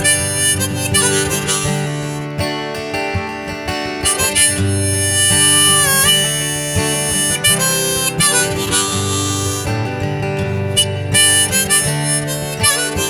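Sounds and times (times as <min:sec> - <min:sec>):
harmonica playing held notes: 0:00.0 - 0:02.5, 0:04.0 - 0:13.0
strummed acoustic guitar: 0:00.0 - 0:13.0.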